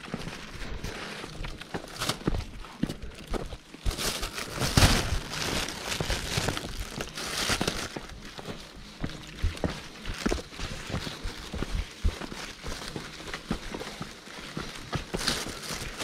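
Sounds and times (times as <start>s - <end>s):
plastic bag crinkling: 1.3s - 16.0s.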